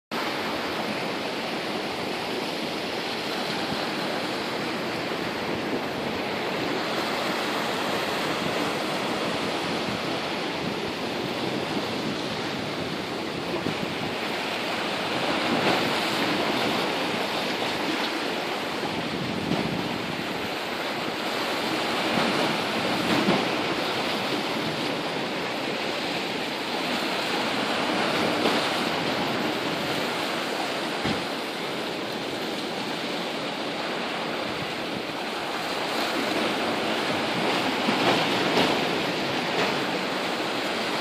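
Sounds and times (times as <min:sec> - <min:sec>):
waves breaking on rocks: 0:00.1 - 0:41.0.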